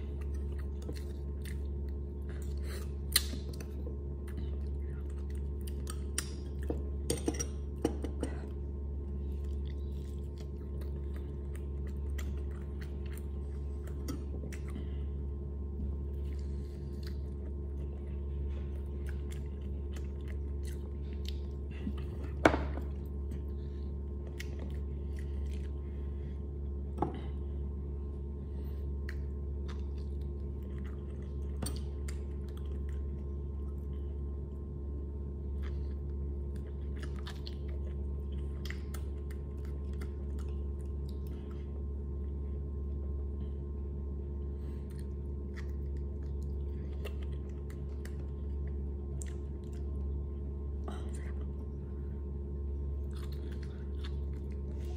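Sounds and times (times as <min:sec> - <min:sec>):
person chewing and eating: 0:00.0 - 0:54.9
steady low hum: 0:00.0 - 0:54.9.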